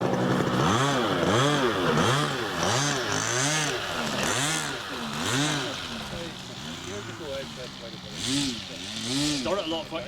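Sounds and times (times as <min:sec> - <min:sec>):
model aeroplane engine running: 0:00.0 - 0:10.0.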